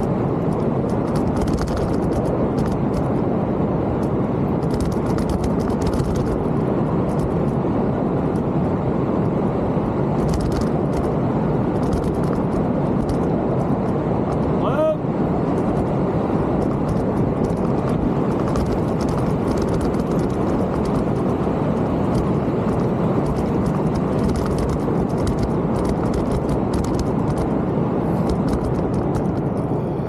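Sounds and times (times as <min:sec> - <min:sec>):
bike clicks and rattles: 0:00.0 - 0:03.3, 0:04.0 - 0:07.6, 0:10.2 - 0:14.5, 0:15.4 - 0:27.5, 0:28.2 - 0:29.7
wind and tyre noise: 0:00.0 - 0:30.0.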